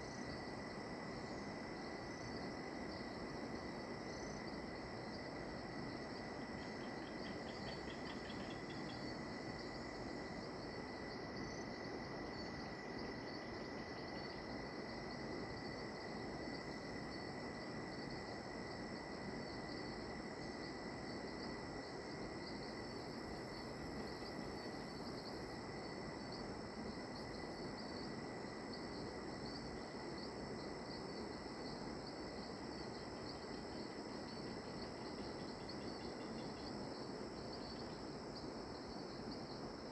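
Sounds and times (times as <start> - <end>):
insect chirps pulsing: 0.0 - 39.9
insects trilling: 0.0 - 39.9.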